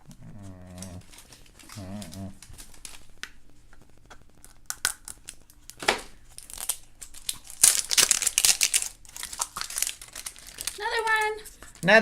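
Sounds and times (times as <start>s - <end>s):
plastic tearing: 0.7s - 11.9s
plastic packet crinkling: 0.7s - 12.0s.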